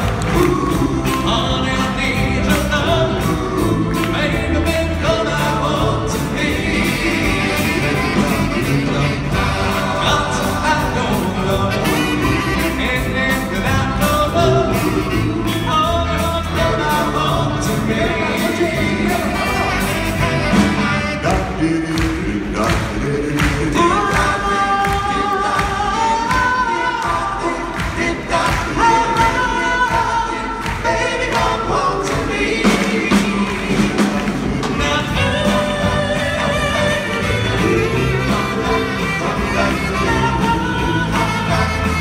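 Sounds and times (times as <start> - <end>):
band with drums: 0.0 - 42.0
vocal group singing harmonies: 0.0 - 42.0.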